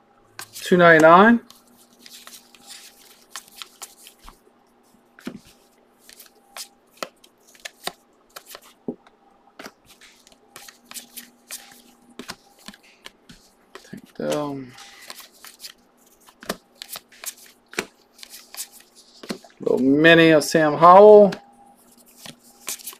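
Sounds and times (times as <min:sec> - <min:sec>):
trading cards flipped by hand: 0:00.4 - 0:04.4, 0:05.2 - 0:08.8, 0:09.6 - 0:19.5, 0:21.9 - 0:22.9.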